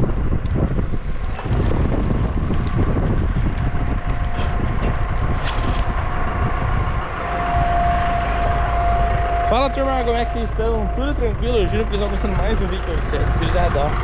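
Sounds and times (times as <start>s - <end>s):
tractor diesel engine running: 0.0s - 14.0s
wind buffeting microphone: 0.0s - 14.0s
faint steady whine: 1.9s - 14.0s.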